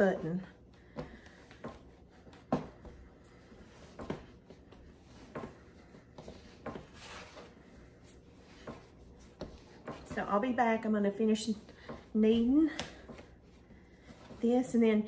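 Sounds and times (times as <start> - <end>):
hands rubbing dough: 0.0 - 15.0.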